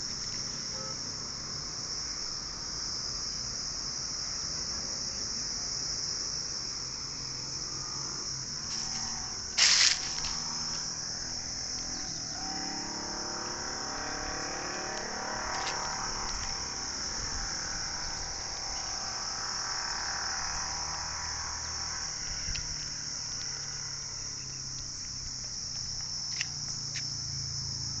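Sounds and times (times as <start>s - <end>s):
insect chorus: 0.0s - 28.0s.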